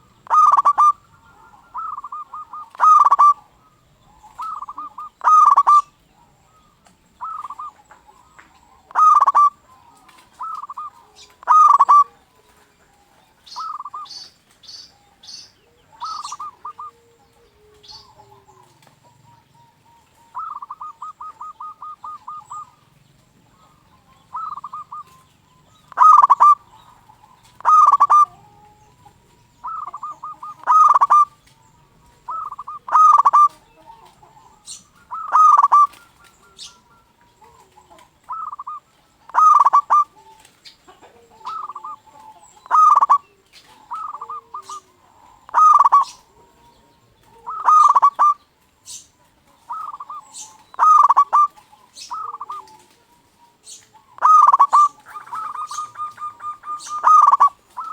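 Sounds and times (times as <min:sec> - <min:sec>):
dove cooing: 0:00.0 - 0:57.9
small bird chirps: 0:00.0 - 0:57.9.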